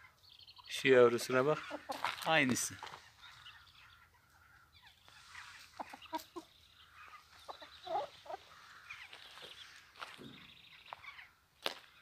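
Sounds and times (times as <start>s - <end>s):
chickens clucking: 0.0s - 11.3s.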